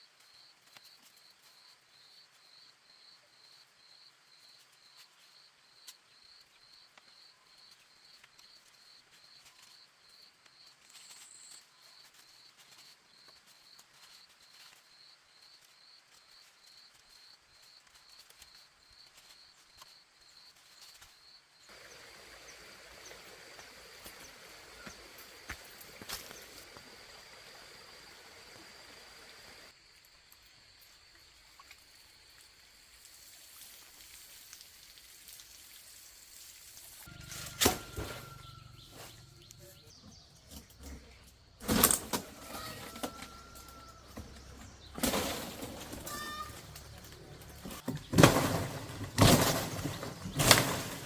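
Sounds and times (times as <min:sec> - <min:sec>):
insect chirping: 0:00.1 - 0:45.5.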